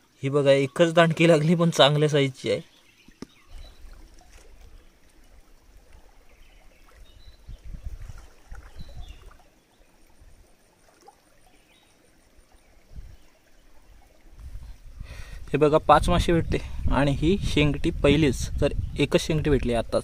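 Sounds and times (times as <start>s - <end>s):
water trickling in a stream: 0.0s - 20.0s.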